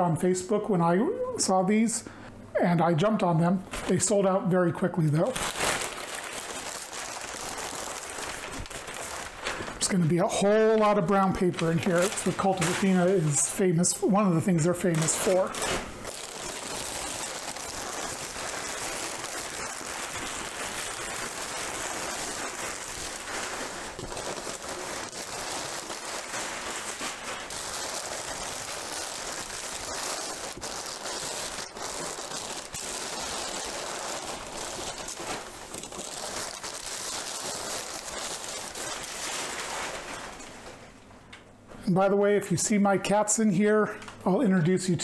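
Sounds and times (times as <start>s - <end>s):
packing paper rustling and crackling: 3.7s - 4.2s, 4.8s - 41.1s.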